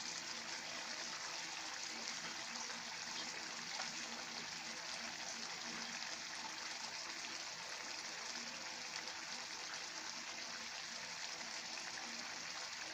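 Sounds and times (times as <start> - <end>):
stew bubbling in a pan: 0.0 - 12.9.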